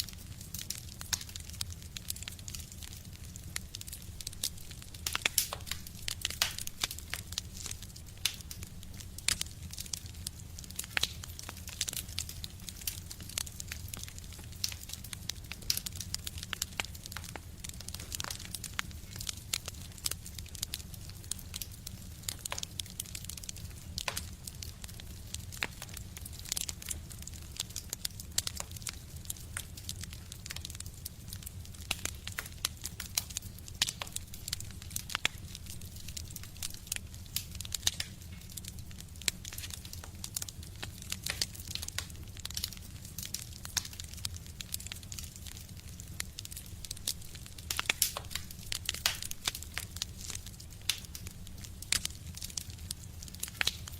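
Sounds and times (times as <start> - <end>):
fire crackling in a stove: 0.0 - 53.9.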